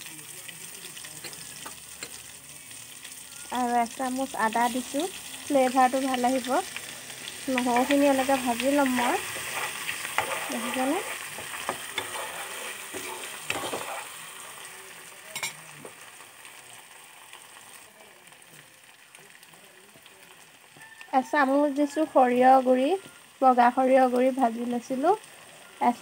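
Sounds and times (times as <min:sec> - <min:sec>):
garlic frying in hot oil: 0:00.0 - 0:26.0.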